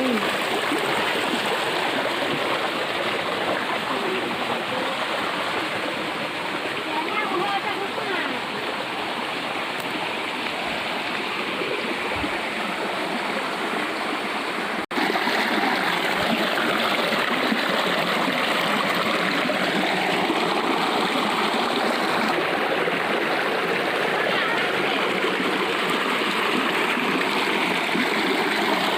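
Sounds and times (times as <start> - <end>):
waterfall and stream rushing: 0.0 - 28.9.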